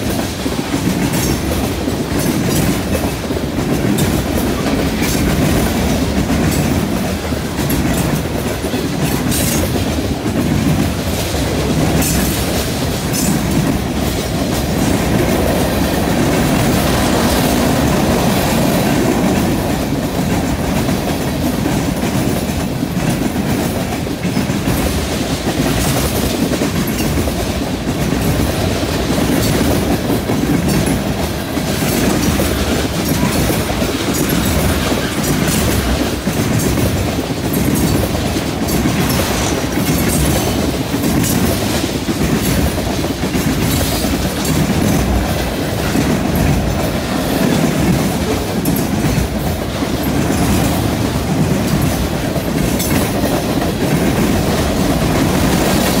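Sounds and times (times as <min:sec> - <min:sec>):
freight train rolling past: 0:00.0 - 0:56.0
steel wheels clacking on rail joints: 0:00.0 - 0:56.0.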